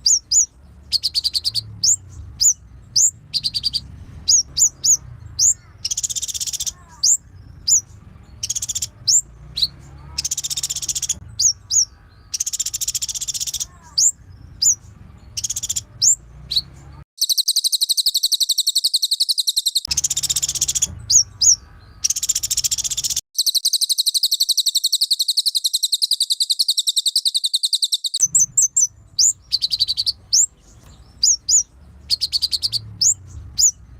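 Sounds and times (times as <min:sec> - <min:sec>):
songbirds chirping and trilling: 0:00.0 - 0:33.9.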